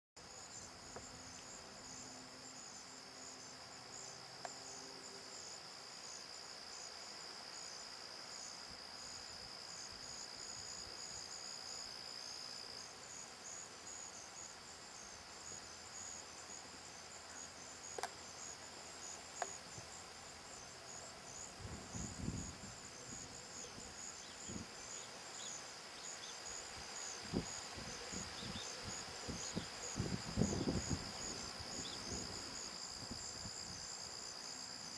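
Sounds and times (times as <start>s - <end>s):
insects chirring: 0.2s - 34.9s.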